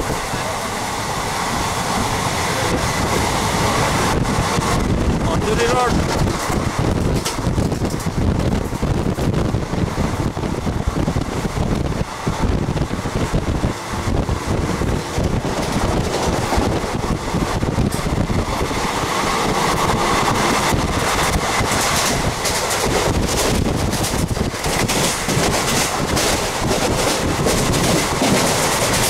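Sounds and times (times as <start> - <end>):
train wheels rumbling on rails: 0.0 - 29.0
wind buffeting microphone: 0.0 - 29.0.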